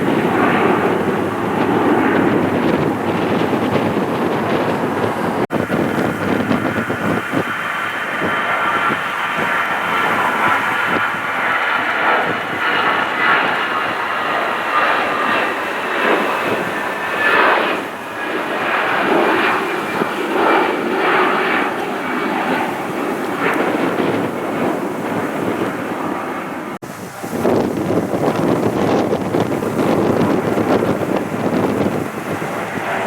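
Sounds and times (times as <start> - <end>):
jet engines passing: 0.0 - 33.0.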